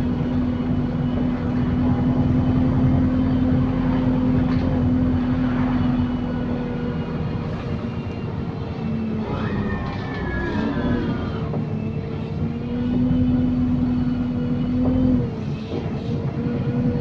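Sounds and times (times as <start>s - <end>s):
road and engine noise drone: 0.0s - 17.0s
steady gearbox whine: 0.0s - 17.0s.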